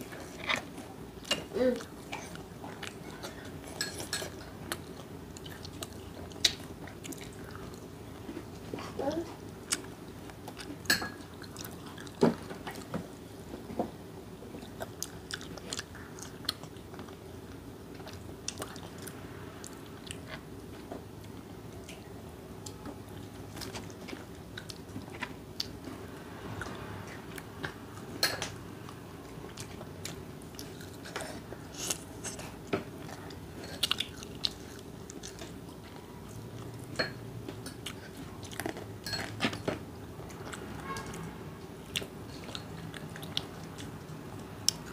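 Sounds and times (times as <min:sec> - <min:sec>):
people chewing crunchy chicken: 0:00.0 - 0:13.0, 0:14.5 - 0:22.1, 0:28.9 - 0:44.9.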